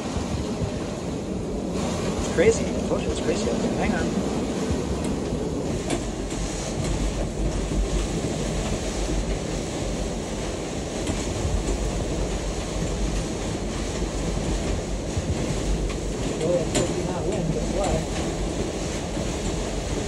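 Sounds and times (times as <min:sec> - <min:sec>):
storm wind rumbling: 0:00.0 - 0:20.0.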